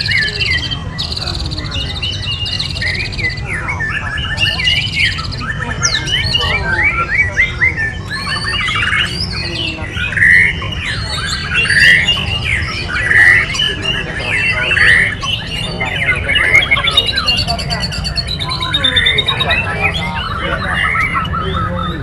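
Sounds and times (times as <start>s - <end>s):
songbirds singing and chirping: 0.0s - 22.0s.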